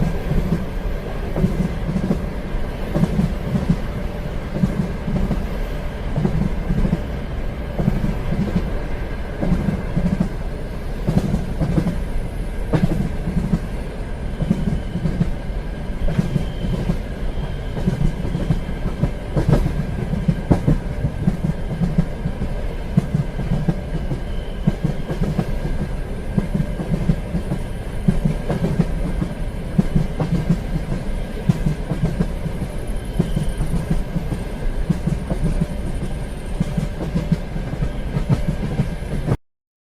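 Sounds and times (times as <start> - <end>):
train rumbling on track: 0.0 - 39.4.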